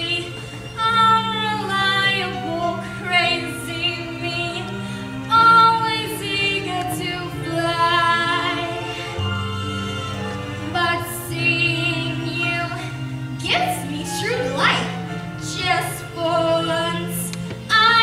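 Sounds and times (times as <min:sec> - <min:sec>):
woman singing: 0:00.0 - 0:09.1, 0:10.6 - 0:18.0
instrumental accompaniment: 0:00.0 - 0:18.0.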